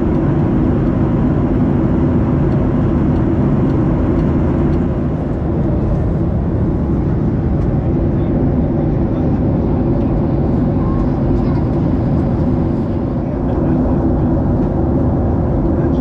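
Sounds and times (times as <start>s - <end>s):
jet airliner cabin noise: 0.0s - 16.0s.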